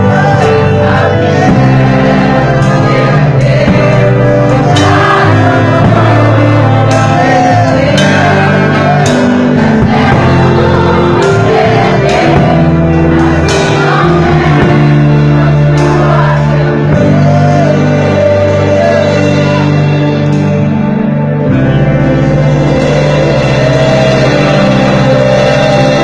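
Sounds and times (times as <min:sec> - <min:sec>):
drum kit: 0:00.0 - 0:26.0
keyboard chords: 0:00.0 - 0:26.0.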